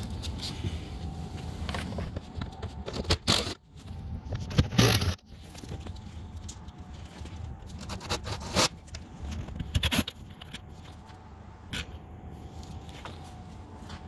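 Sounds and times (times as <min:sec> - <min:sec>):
scraping and handling noise: 0:00.0 - 0:14.0.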